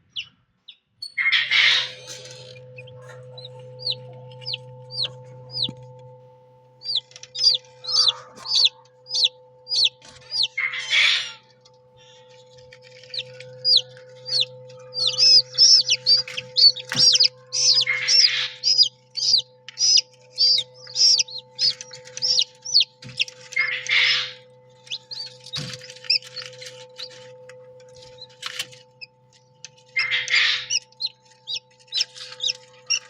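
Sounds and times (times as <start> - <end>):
chick peeping: 0.0 - 6.0, 6.8 - 33.0
steady low hum: 1.4 - 33.0.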